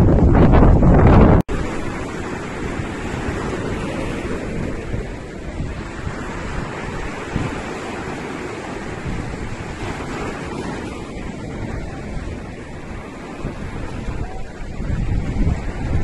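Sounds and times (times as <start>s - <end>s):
ocean waves washing: 0.0s - 16.0s
wind buffeting microphone: 0.0s - 16.0s.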